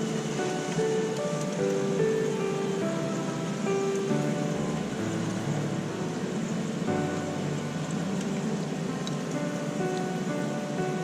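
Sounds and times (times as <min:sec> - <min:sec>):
background music of held notes: 0:00.0 - 0:11.0
steady hiss: 0:00.0 - 0:11.0.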